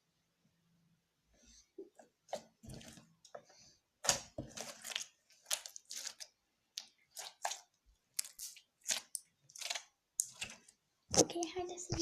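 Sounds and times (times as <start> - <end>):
slime squelching by hand: 1.8 - 12.0.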